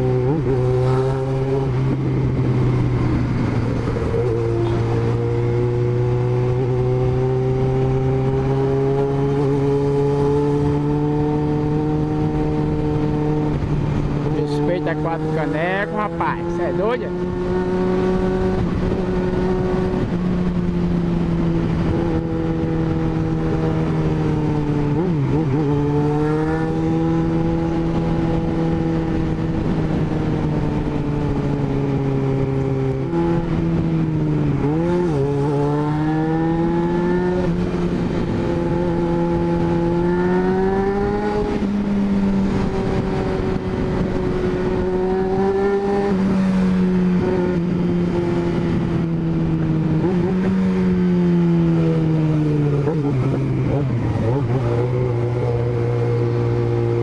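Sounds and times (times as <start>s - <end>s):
motorcycle engine accelerating: 0.0s - 57.0s
wind on microphone: 0.0s - 57.0s.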